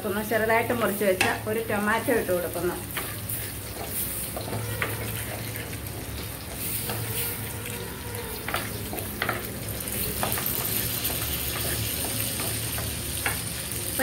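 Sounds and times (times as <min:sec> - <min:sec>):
paste sizzling in oil: 0:00.0 - 0:14.0
wooden spatula scraping a pot: 0:02.1 - 0:13.4.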